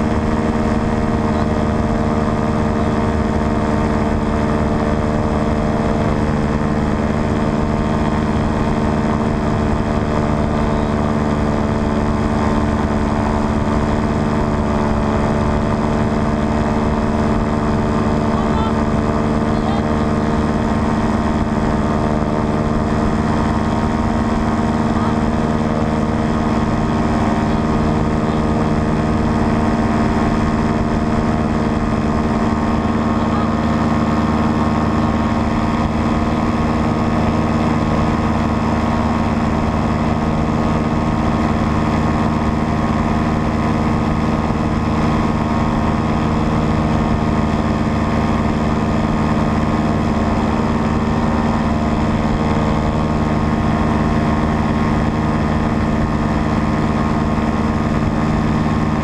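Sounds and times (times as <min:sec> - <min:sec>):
paramotor engine drone: 0:00.0 - 0:59.0.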